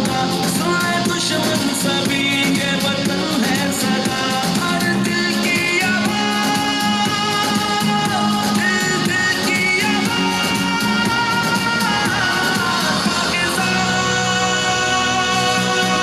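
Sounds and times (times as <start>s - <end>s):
song through a speaker: 0.0s - 16.0s.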